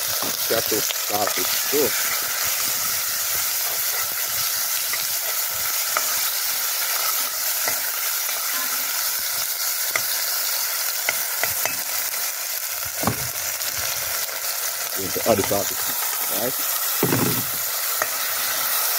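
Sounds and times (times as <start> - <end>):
vegetables sizzling in pot: 0.0 - 18.9.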